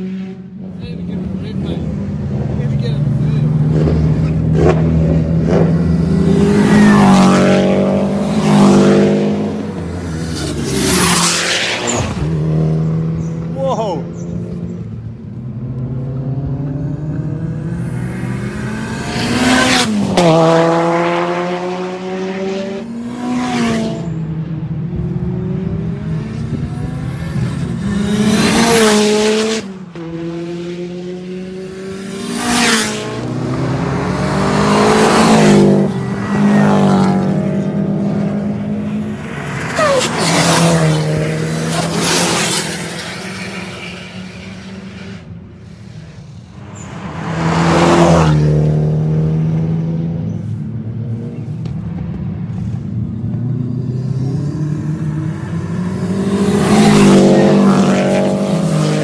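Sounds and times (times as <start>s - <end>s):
cars passing at speed: 0.0s - 59.0s.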